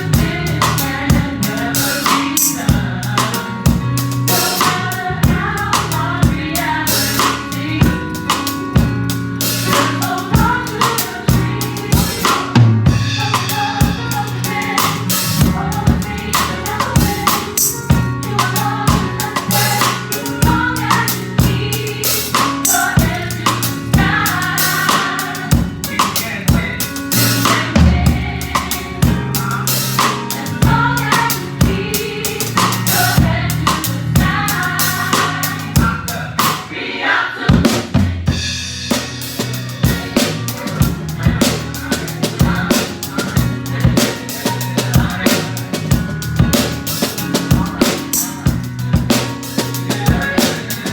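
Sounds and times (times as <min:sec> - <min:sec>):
drum kit playing groove: 0:00.0 - 0:50.9
live gospel music: 0:00.0 - 0:50.9.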